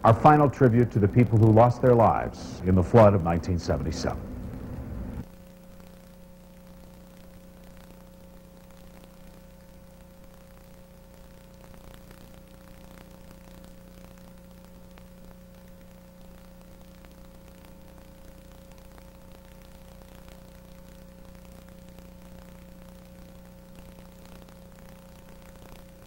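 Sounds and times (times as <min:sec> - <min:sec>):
faint crackles: 0:00.0 - 0:26.0
low electrical hum: 0:00.0 - 0:26.0.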